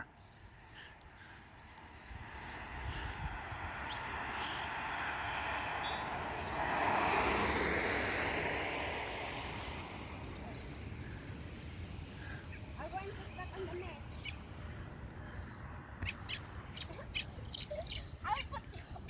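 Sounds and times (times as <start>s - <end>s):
car passing: 0.5s - 19.0s.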